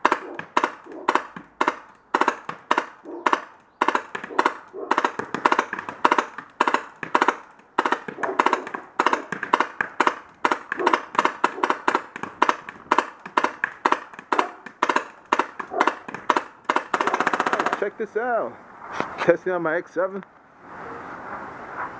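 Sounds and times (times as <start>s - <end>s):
paintball marker firing: 0.0s - 17.9s.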